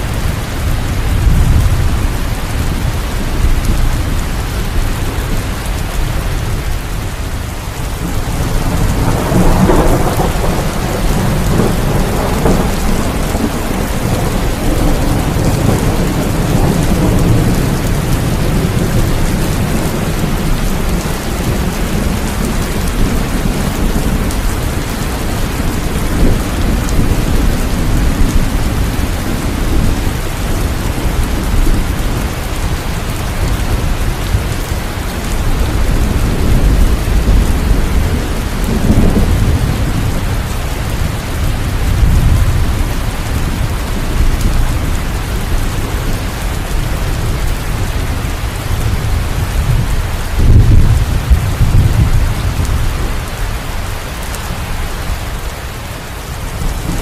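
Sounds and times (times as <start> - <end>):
heavy rain falling: 0.0 - 57.0
thunder rumbling: 0.0 - 57.0.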